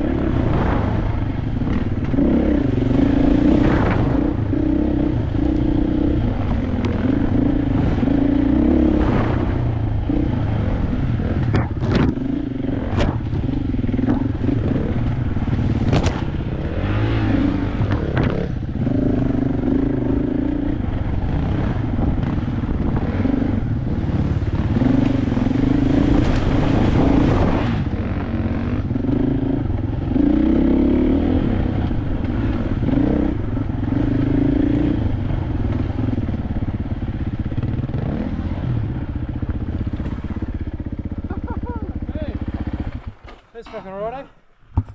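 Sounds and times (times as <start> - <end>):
dirt bike engine revving: 0.0 - 43.2.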